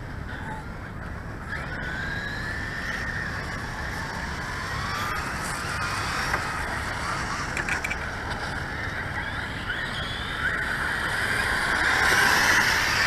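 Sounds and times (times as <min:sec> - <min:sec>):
electric rc car motor whine: 0:01.5 - 0:13.0.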